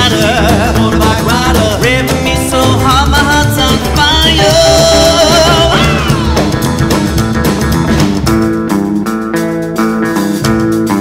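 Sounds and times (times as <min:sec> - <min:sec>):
band music with sliding melody: 0:00.0 - 0:11.0.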